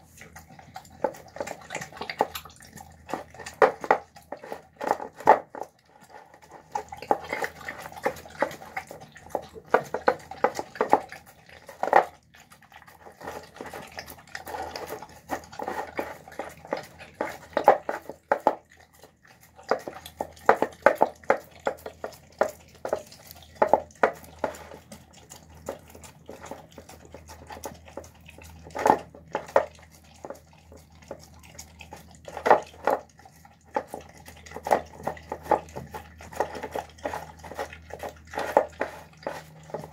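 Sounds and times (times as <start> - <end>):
dog eating wet food: 0.0 - 39.9.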